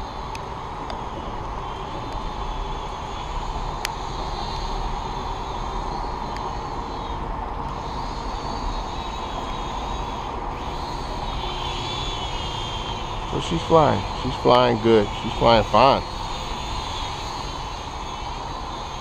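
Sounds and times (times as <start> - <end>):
quadcopter motors whining: 0.0 - 19.0
sharp ticks: 0.0 - 19.0.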